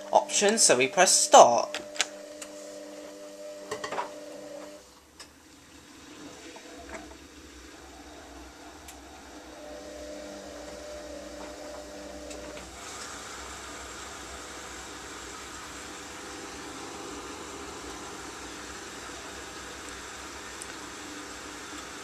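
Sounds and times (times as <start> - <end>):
dishwasher pump hum: 0.0 - 22.0.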